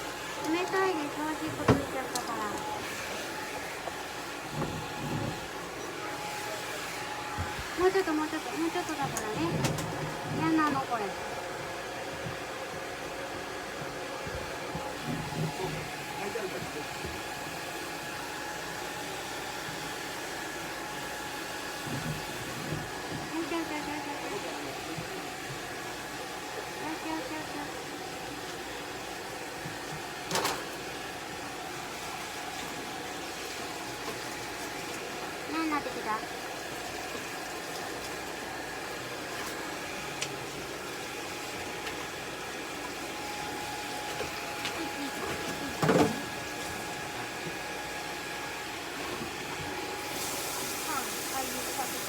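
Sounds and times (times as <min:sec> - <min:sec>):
hair dryer blowing: 0:00.0 - 0:52.0.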